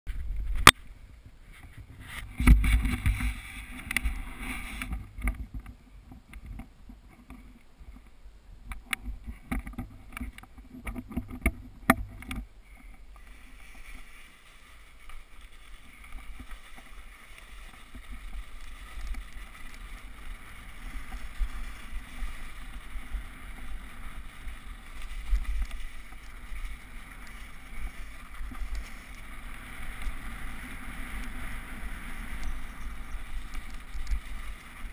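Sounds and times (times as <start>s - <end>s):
wind rumble on microphone: 0.1s - 34.9s
bike knocking and rattling over bumps: 1.6s - 8.0s, 8.8s - 34.9s.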